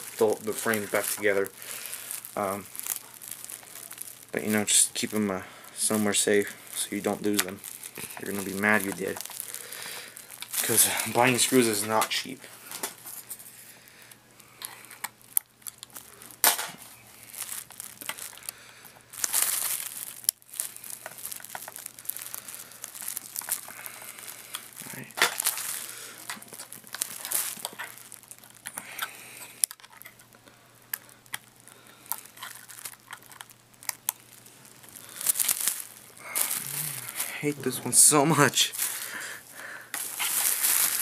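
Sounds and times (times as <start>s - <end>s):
bubble wrap crinkling: 0.0s - 41.0s.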